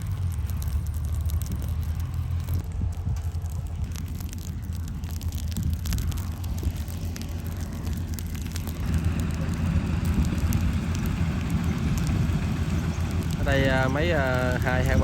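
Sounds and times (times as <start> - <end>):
combine harvester diesel rumble: 0.0 - 15.0
light crackles: 0.0 - 15.0.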